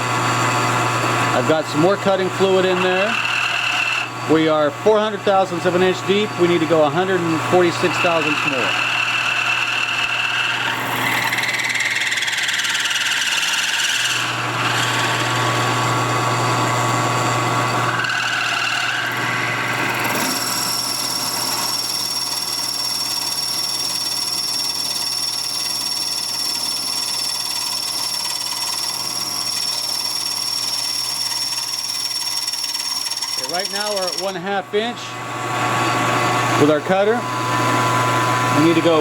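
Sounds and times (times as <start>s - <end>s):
cutter cutting noise: 0.0s - 39.0s
milling machine motor hum: 0.0s - 39.0s.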